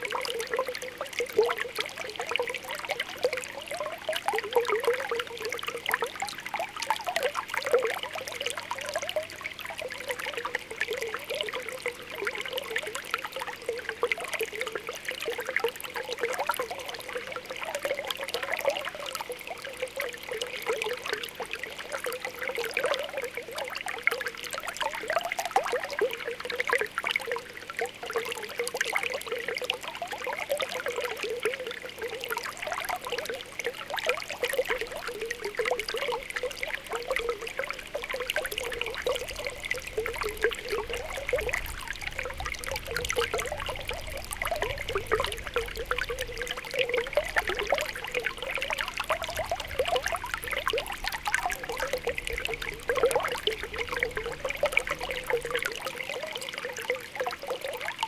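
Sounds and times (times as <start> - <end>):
spring water bubbling: 0.0 - 58.0
water trickling: 0.0 - 58.0.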